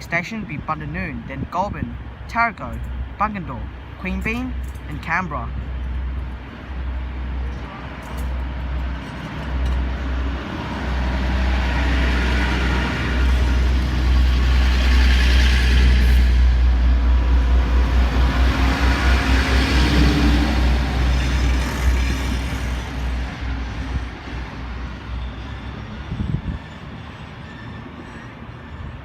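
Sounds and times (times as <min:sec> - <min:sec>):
diesel train pulling out: 0:00.0 - 0:29.0.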